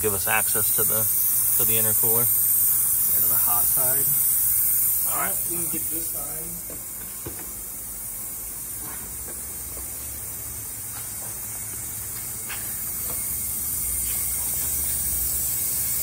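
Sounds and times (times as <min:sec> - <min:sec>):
compressed air hissing: 0:00.0 - 0:16.0.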